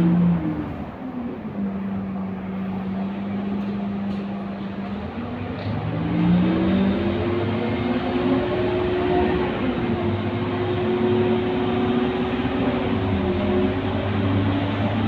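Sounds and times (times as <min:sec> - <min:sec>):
bus diesel engine: 0:00.0 - 0:15.0.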